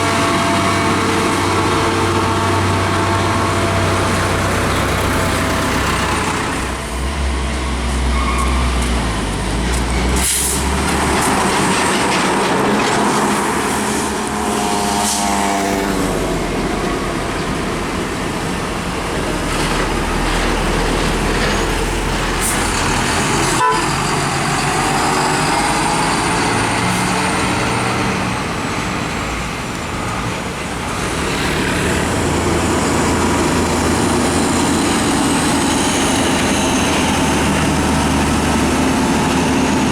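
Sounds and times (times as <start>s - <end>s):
truck engine revving: 0.0s - 29.9s, 30.8s - 39.9s
diesel trucks driving past: 0.0s - 39.9s.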